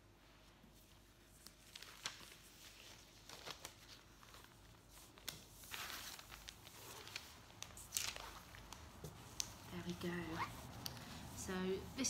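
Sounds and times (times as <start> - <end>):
tote bag rustling: 1.7 - 12.0.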